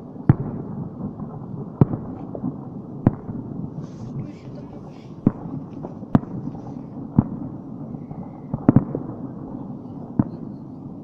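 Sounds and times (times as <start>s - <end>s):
fireworks booming: 0.0s - 11.0s
low rumble of distant fireworks: 0.0s - 11.0s.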